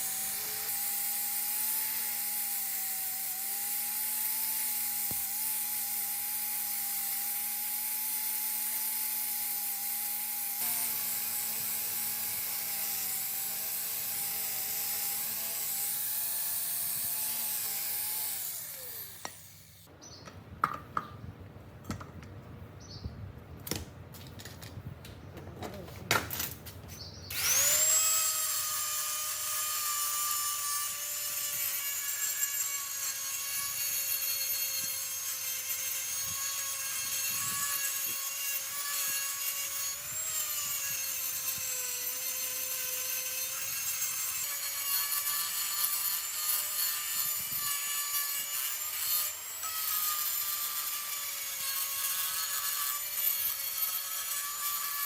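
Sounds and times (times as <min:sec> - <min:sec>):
electric power tool whirring: 0:00.0 - 0:19.9, 0:27.3 - 0:55.0.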